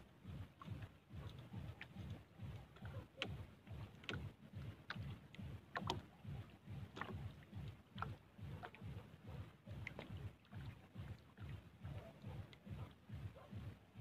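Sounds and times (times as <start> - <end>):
water slapping against boat hull: 0.0 - 14.0.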